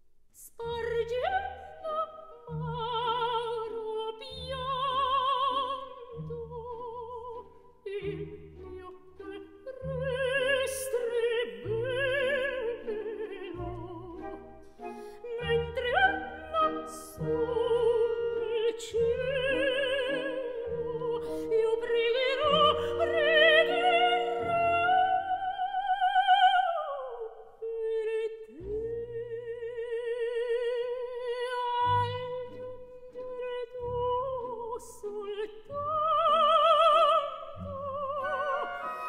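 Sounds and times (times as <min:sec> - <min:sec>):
operatic soprano singing: 0:00.4 - 0:39.0.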